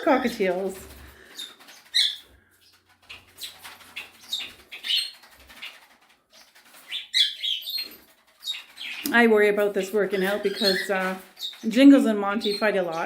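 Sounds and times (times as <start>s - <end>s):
cockatiels chirping: 1.3s - 9.2s, 9.8s - 13.0s.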